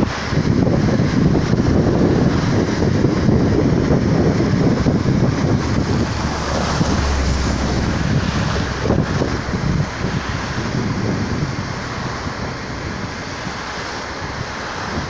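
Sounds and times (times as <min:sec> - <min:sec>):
car road noise: 0:00.0 - 0:15.0
passing lorry rumble: 0:00.0 - 0:15.0
wind buffeting microphone: 0:00.0 - 0:15.0.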